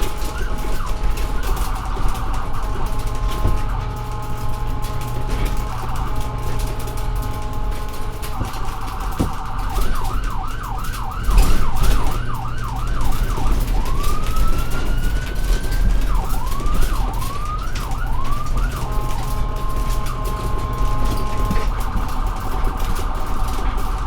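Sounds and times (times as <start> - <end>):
emergency vehicle siren: 0.0 - 24.0.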